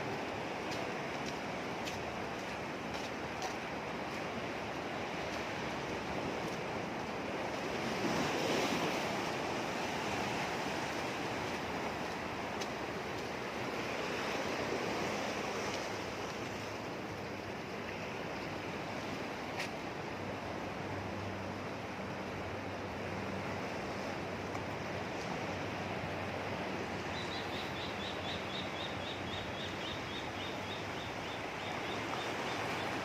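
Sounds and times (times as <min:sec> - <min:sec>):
sea waves washing: 0:00.0 - 0:33.0.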